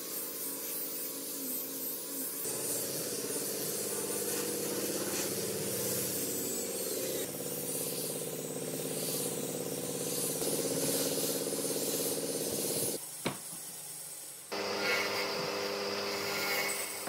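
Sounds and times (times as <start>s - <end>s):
angle grinder sanding wood: 0.0s - 13.0s, 14.5s - 17.0s.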